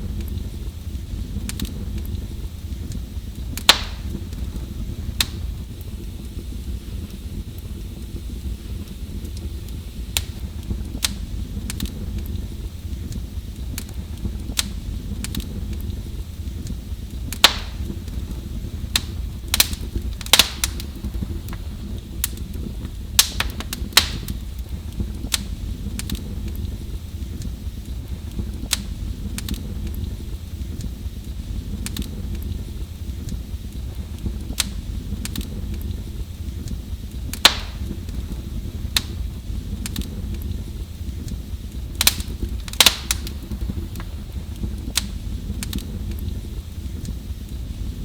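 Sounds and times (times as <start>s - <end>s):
fire crackling and popping: 0.0s - 48.0s
low rumble of flames: 0.0s - 48.0s.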